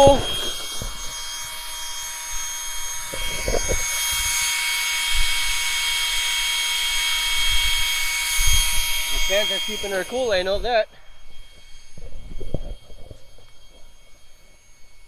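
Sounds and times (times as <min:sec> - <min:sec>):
small cooling fans whining: 0:00.0 - 0:15.0.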